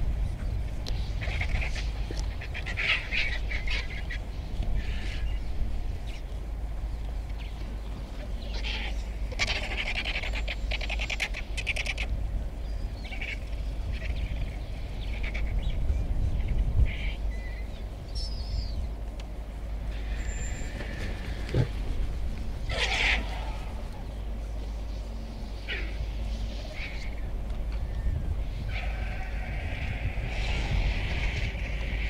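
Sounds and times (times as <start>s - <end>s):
steady low rumble: 0.0s - 32.0s
vultures chattering calls: 0.4s - 32.0s.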